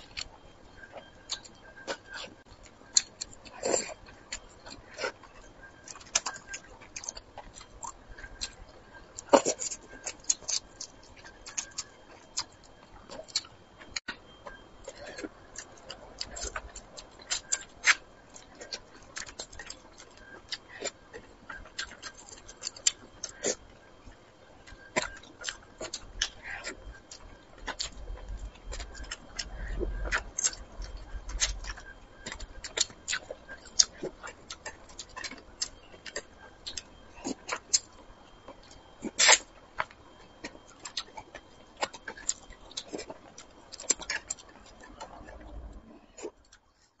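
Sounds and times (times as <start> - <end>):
mouth clicks and lip smacks chewing: 1.0 - 23.6, 24.6 - 46.6.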